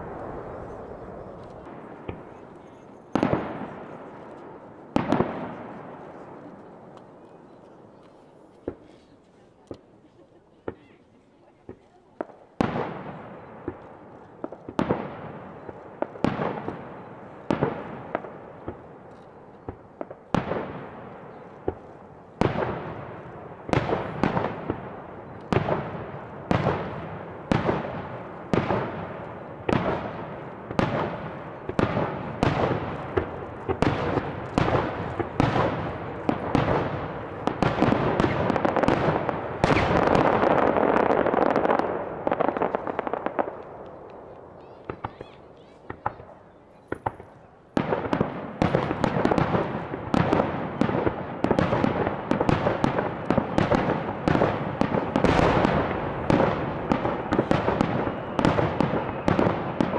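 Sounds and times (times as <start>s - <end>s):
fireworks bangs echoing: 0.0s - 9.9s, 11.6s - 59.9s.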